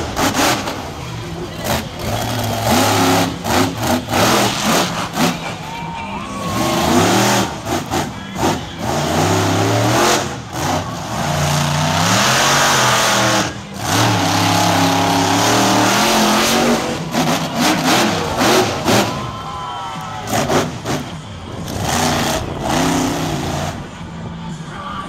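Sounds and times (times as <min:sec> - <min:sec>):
monster truck engine revving: 0:00.0 - 0:24.3.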